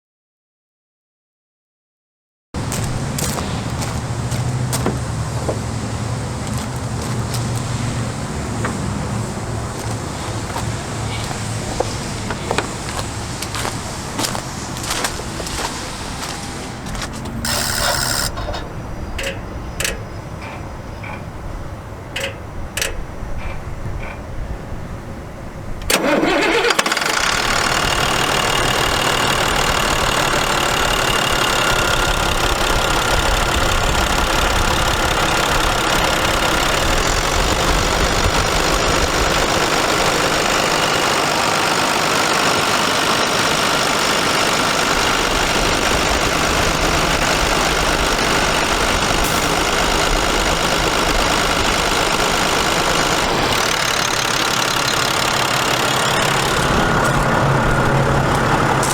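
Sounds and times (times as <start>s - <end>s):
diesel engine starting and idling: 2.6s - 20.2s, 25.6s - 58.9s.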